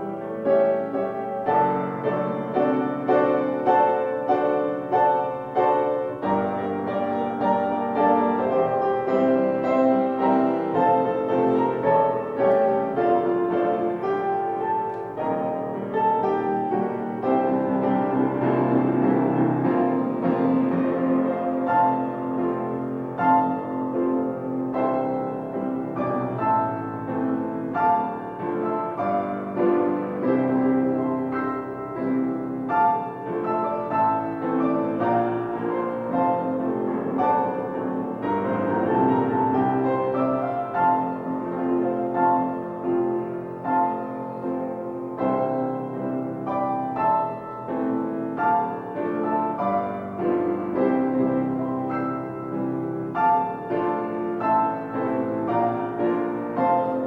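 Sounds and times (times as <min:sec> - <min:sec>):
piano piece: 0:00.0 - 0:57.0.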